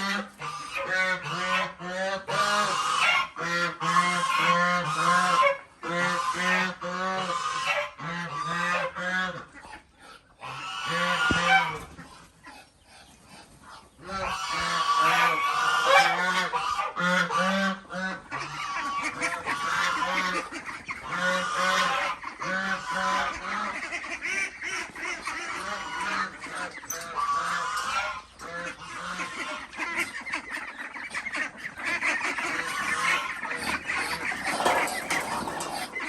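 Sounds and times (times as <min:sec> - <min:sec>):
flock of ducks quacking: 0:00.0 - 0:36.0.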